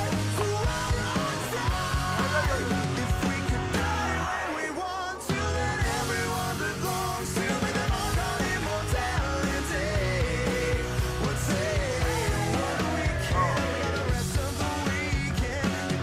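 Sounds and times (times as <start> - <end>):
rock song with vocals: 0.0 - 16.0.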